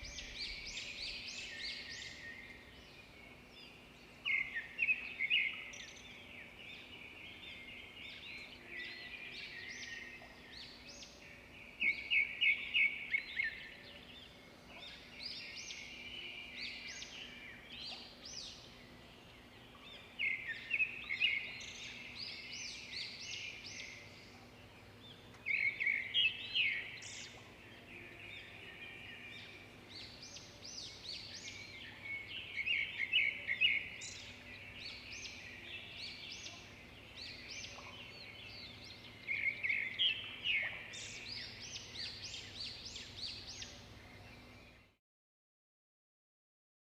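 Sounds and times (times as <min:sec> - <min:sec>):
birds chirping: 0:00.0 - 0:45.0
faint steady hum: 0:00.0 - 0:45.0.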